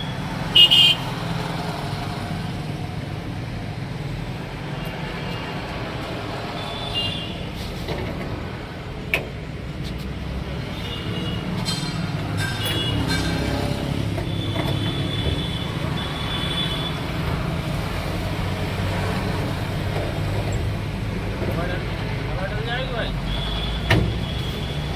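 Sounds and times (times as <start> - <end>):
road traffic: 0.0 - 24.9.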